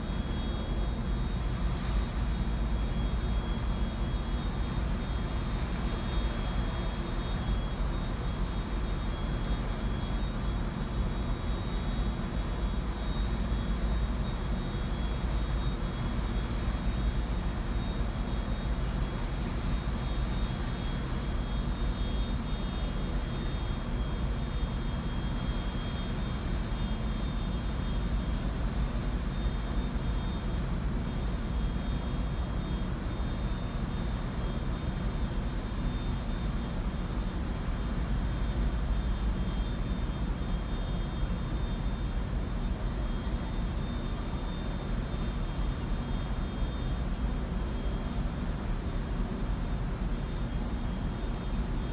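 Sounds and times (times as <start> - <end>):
faint high whine: 0.0 - 51.9.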